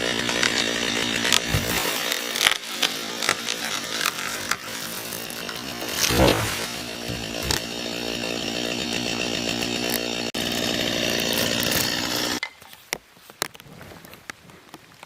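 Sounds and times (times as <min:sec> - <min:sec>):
chainsaw engine running: 0:00.0 - 0:12.4.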